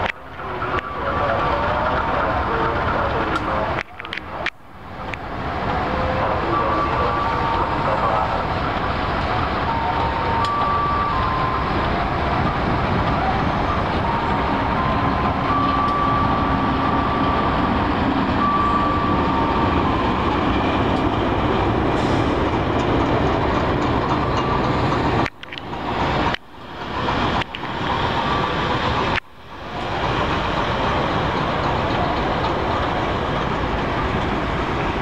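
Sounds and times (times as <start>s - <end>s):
diesel locomotive passing: 0.0s - 35.0s
train wheels on rails: 0.0s - 35.0s.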